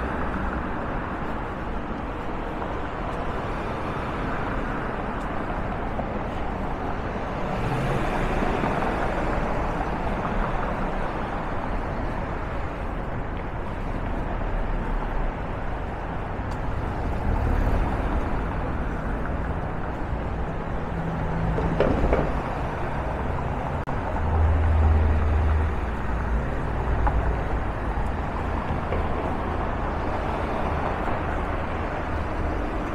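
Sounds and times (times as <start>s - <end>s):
passing cars: 0.0s - 32.9s.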